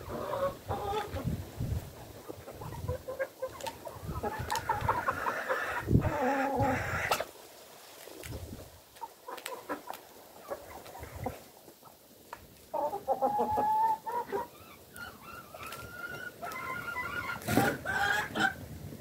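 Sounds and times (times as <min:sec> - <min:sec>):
hens and roosters clucking: 0:00.0 - 0:19.0.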